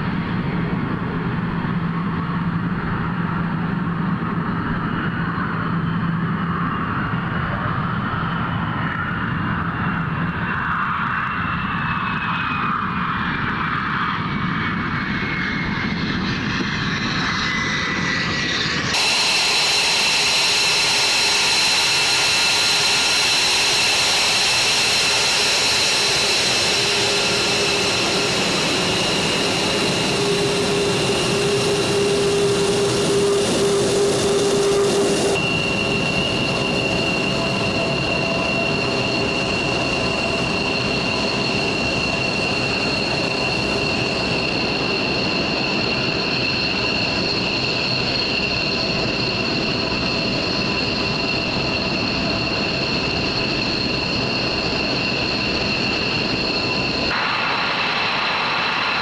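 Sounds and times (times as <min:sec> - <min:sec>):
jet engines roaring with turbine whine: 0:00.0 - 0:59.0.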